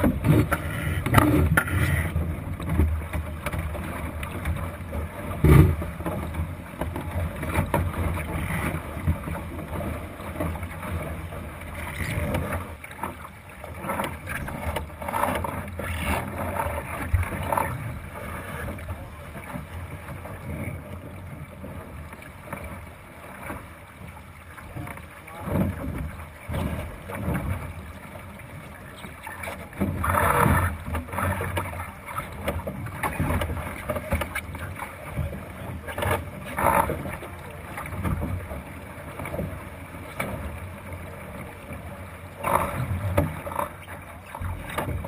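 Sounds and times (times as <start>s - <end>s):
boat knocks: 0.0s - 45.0s
water splashing along hull: 0.0s - 45.0s.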